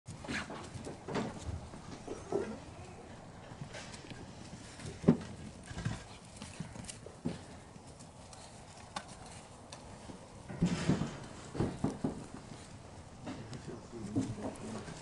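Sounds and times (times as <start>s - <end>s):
paws thumping on wooden planks: 0.1s - 15.0s.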